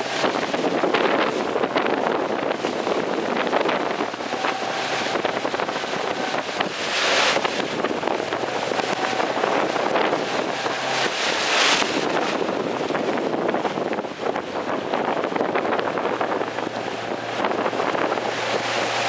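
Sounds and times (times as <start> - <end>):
rushing water and choppy waves: 0.0 - 19.0
wind buffeting microphone: 0.0 - 19.0.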